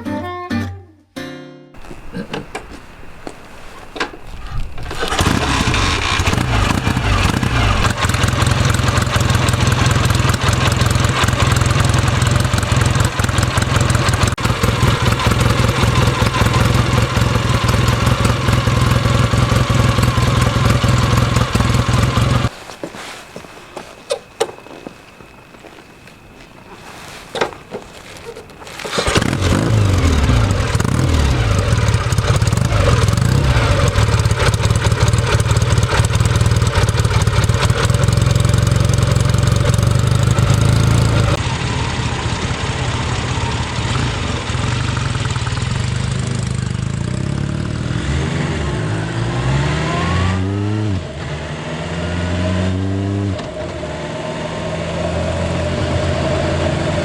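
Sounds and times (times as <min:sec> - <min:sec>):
motorcycle engine running and revving: 0:04.4 - 0:22.5, 0:27.4 - 0:57.0.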